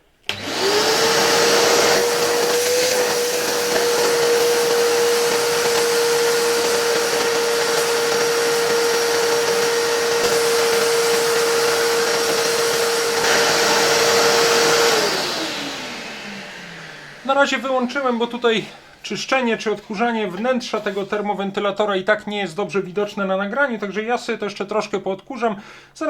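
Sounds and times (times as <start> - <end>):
vacuum cleaner running: 0.1 - 21.4.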